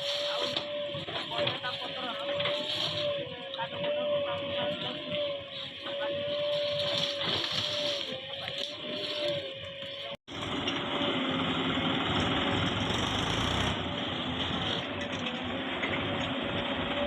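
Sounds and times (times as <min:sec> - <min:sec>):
heavy machinery diesel engine: 0:00.0 - 0:17.0.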